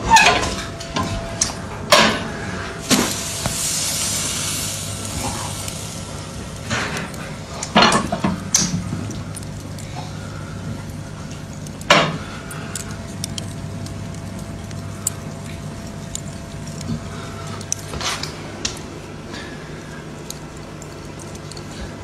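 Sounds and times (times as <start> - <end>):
clicks and crackles: 0.1 - 22.0
hissing sizzle: 0.1 - 22.0.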